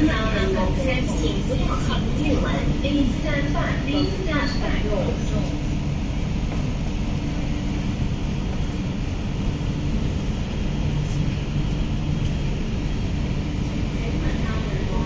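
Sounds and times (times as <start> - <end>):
metro train humming at platform: 0.0 - 15.0.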